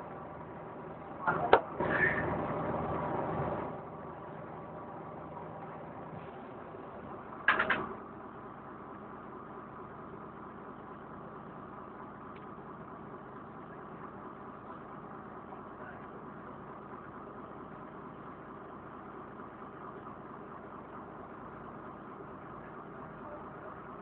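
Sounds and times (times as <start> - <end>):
bus engine running: 0.0 - 24.0.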